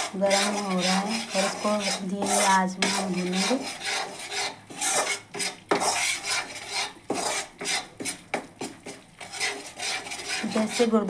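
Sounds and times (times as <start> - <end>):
metal ladle scraping metal pan: 0.0 - 11.0.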